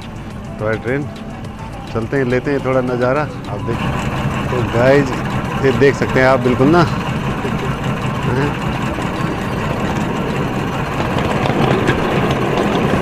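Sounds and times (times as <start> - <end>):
miniature train running on track: 0.0 - 13.0.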